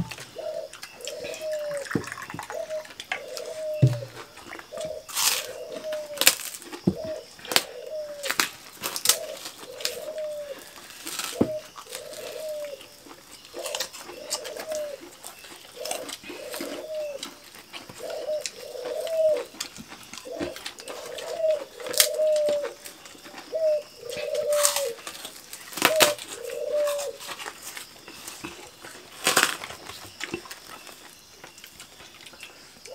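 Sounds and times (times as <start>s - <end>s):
dove cooing: 0.0s - 19.6s, 20.2s - 27.2s
people eating crunches: 0.0s - 32.9s.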